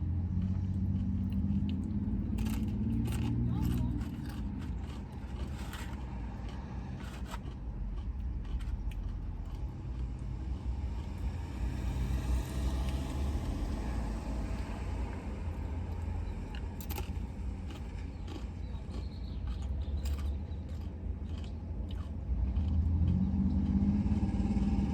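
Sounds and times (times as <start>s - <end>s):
car engine rumble inside cabin: 0.0s - 18.6s, 19.2s - 24.9s
passing traffic: 0.0s - 24.9s
food crunching while eaten: 0.3s - 11.8s, 16.0s - 24.7s.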